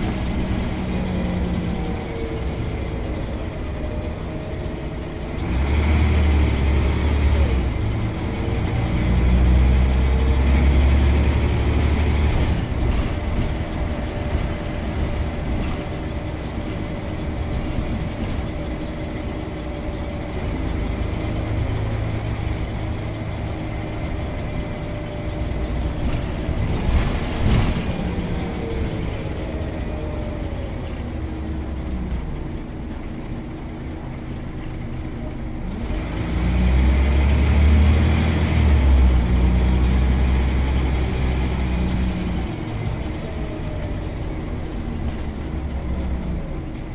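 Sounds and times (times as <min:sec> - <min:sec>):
bus diesel engine droning: 0:00.0 - 0:46.9.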